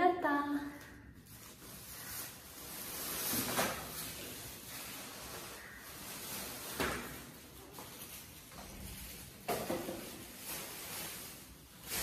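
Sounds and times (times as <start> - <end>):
plastic bag rustling: 1.0 - 12.0.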